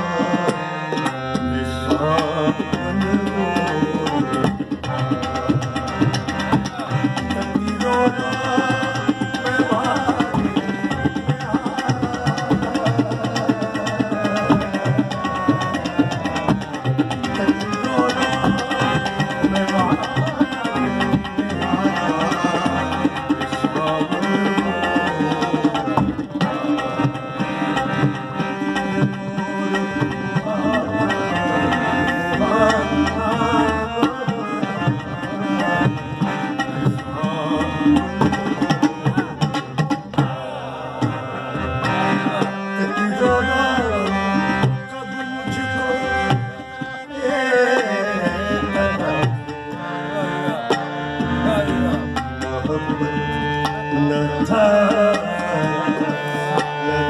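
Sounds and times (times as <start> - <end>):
harmonium melody: 0.0 - 57.0
man singing: 0.0 - 57.0
tabla rhythm: 0.0 - 57.0.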